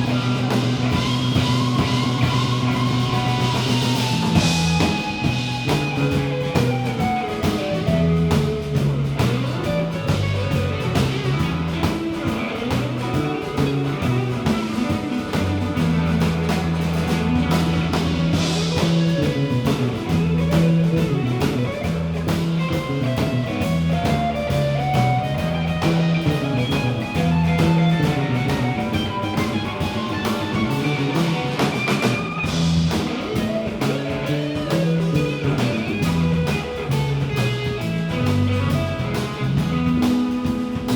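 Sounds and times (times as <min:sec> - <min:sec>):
bass notes: 0:00.0 - 0:40.9
drum kit beat: 0:00.0 - 0:40.9
guitar lines: 0:00.0 - 0:40.9.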